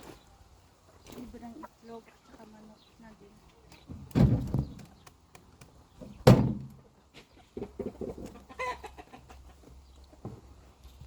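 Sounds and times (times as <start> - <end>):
chickens clucking: 0.0 - 6.2, 6.8 - 11.0.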